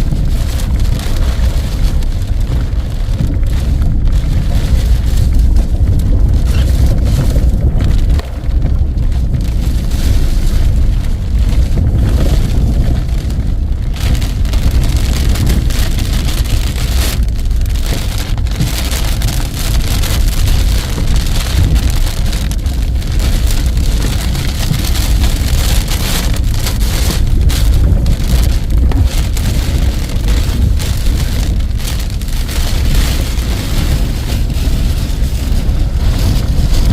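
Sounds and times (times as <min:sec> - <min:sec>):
heavy low rumble: 0:00.0 - 0:36.9
heavy rain pouring: 0:00.0 - 0:36.9
strong wind: 0:00.0 - 0:36.9.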